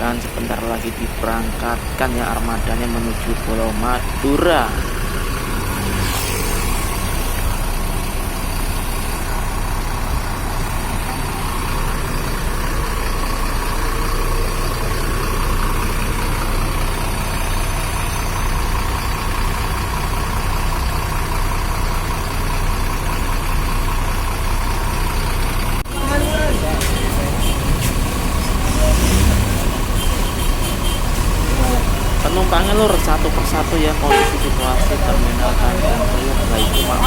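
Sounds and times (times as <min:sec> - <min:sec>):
bus diesel engine idling: 0:00.0 - 0:37.0.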